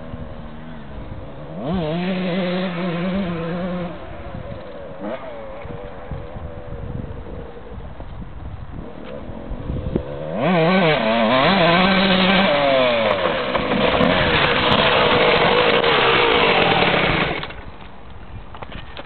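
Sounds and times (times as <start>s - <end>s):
two-stroke motorcycle engine revving: 0.0s - 7.7s, 8.7s - 17.7s.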